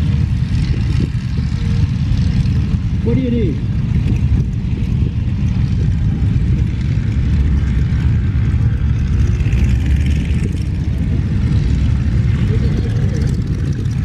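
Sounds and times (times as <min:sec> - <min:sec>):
radial aircraft engines idling: 0:00.0 - 0:14.0.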